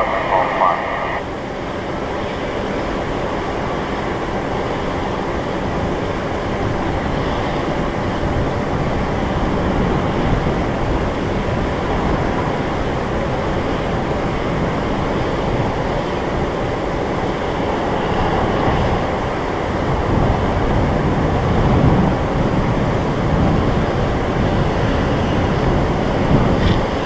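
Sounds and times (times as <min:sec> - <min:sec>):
jet aircraft rumble: 0:00.0 - 0:27.0.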